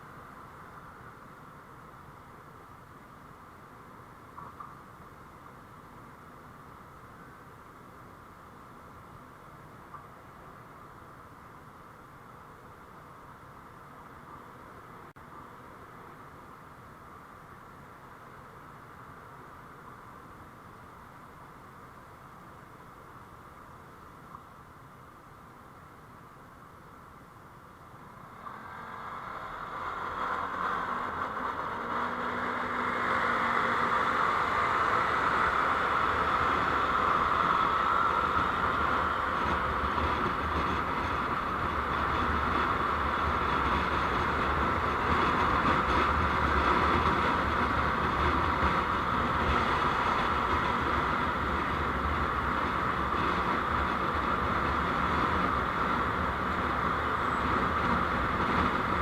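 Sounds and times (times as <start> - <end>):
vehicle road noise: 0.0 - 59.0.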